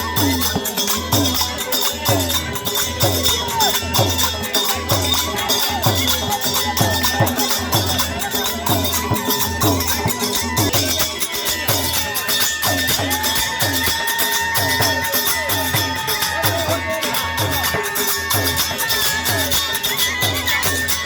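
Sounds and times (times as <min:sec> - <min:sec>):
drum beat: 0:00.0 - 0:21.0.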